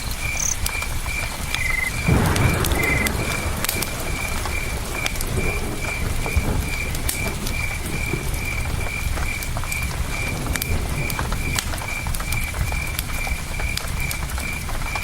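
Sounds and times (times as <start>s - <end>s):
campfire crackling and popping: 0.0s - 15.0s
cricket chirping: 0.0s - 15.0s.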